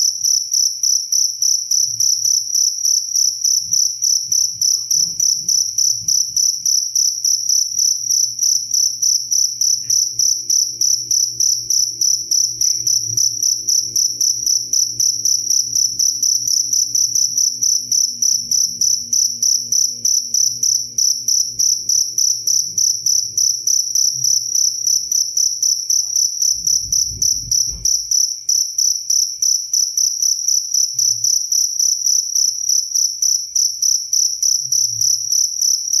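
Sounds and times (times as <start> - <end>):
cricket chirping: 0.0 - 36.0.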